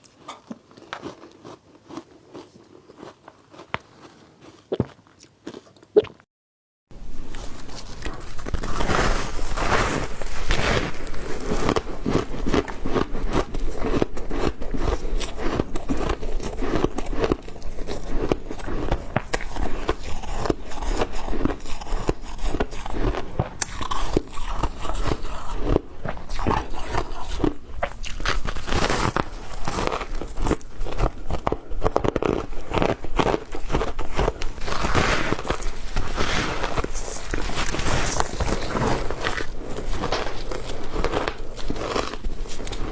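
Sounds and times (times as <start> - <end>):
crunching ice chewing: 0.0 - 6.2, 7.3 - 42.9.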